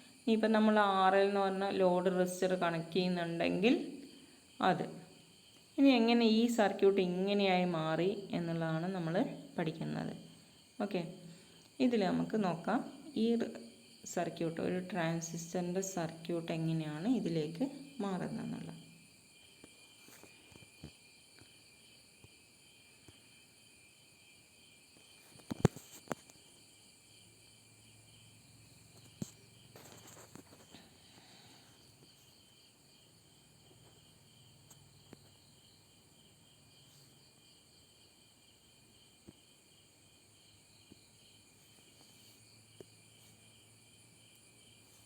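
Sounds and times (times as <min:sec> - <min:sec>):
insects chirping: 0:00.0 - 0:45.0.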